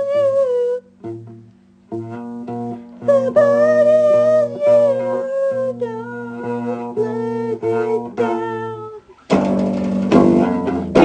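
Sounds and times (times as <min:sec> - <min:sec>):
held pitched notes: 0:00.0 - 0:11.0
plucked guitar: 0:00.0 - 0:11.0.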